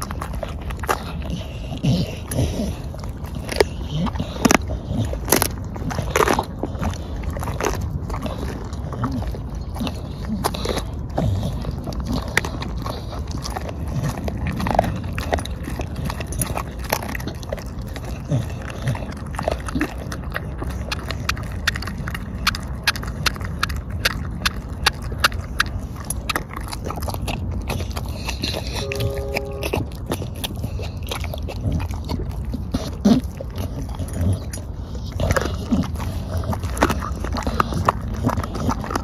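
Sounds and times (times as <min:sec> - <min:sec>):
dog chewing bones: 0:00.0 - 0:39.0.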